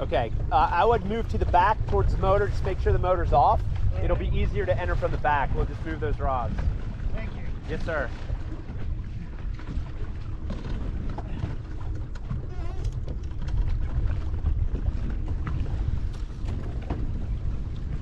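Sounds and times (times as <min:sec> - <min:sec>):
choppy water: 0:00.0 - 0:18.0
wind buffeting microphone: 0:00.0 - 0:18.0.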